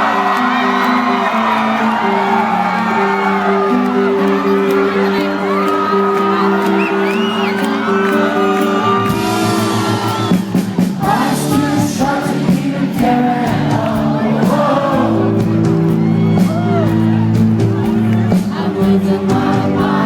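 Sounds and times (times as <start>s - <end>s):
crowd whooping and cheering: 0.0s - 20.0s
live rock band playing: 0.0s - 20.0s.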